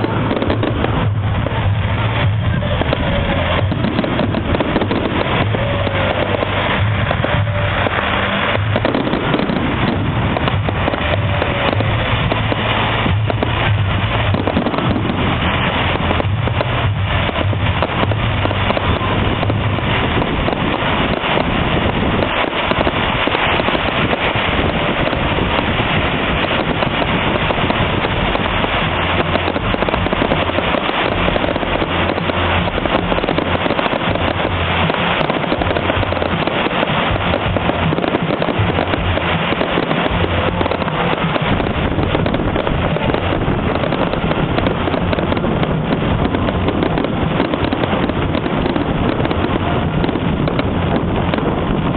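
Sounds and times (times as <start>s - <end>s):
fireworks bangs and crackle: 0.0s - 51.9s.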